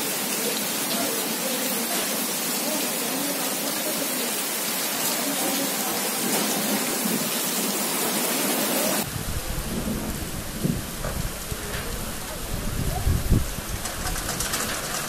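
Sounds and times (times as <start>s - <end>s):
heavy rain on street: 0.0s - 15.0s
rain splashing into standing water: 0.0s - 15.0s.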